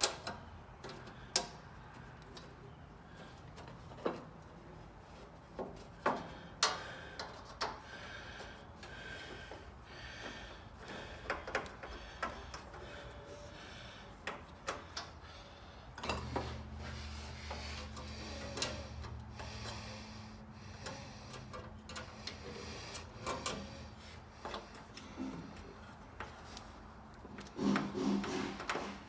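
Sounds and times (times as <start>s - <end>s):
clicks and knocks of hand work: 0.0s - 4.5s, 5.1s - 29.0s
scraping on parts: 0.0s - 29.0s.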